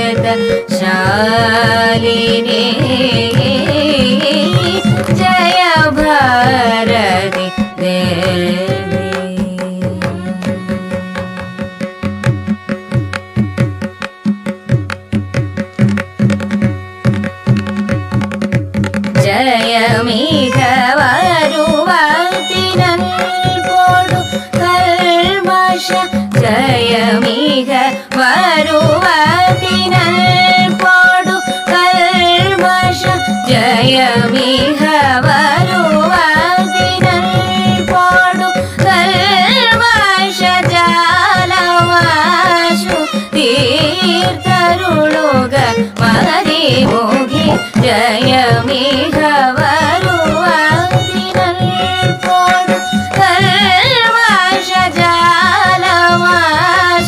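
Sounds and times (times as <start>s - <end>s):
person singing ornamented melody: 0.0s - 11.9s, 19.2s - 57.0s
hand drum beat: 0.0s - 57.0s.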